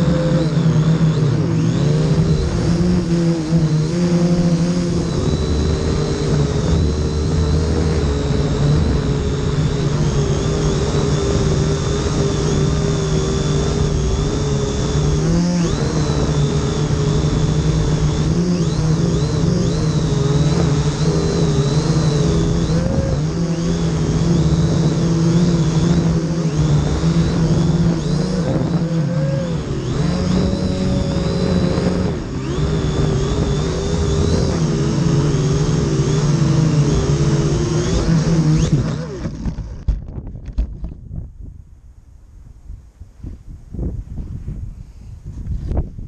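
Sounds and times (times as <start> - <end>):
drone propellers buzzing: 0.0 - 42.9
wind rumble on microphone: 0.0 - 46.0.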